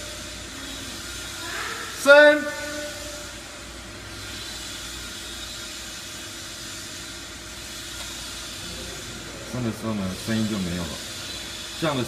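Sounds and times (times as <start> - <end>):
winch motor humming: 0.0 - 12.0.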